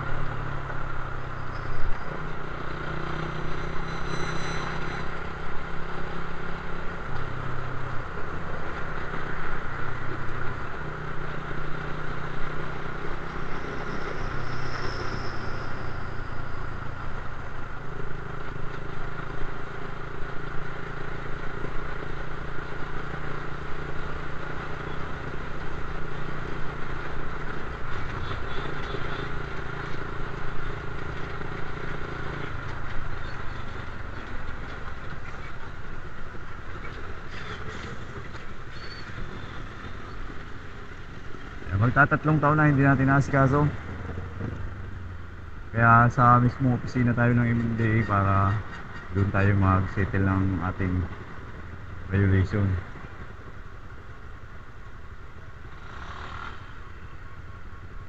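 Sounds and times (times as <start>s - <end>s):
wind and road hiss: 4.8s - 58.0s.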